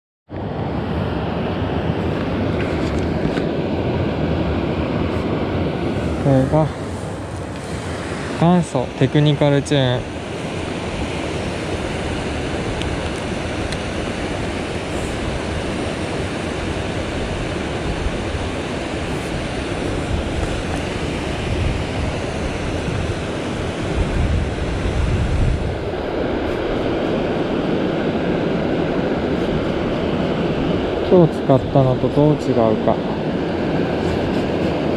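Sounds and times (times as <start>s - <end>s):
low rumbling water surges: 0.3s - 34.9s
mountain stream rushing: 0.3s - 34.9s.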